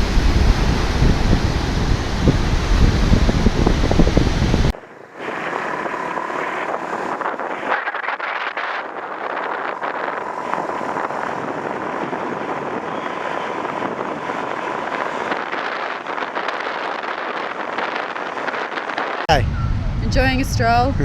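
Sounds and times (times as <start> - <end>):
ocean surf: 0.0 - 19.3
wind on microphone: 0.0 - 21.0.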